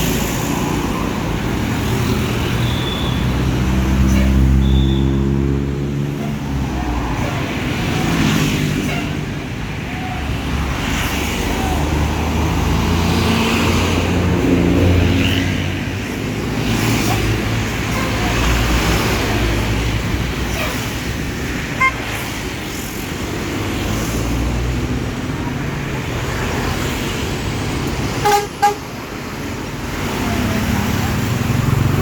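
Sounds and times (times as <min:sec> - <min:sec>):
bus diesel engines passing: 0:00.0 - 0:32.0.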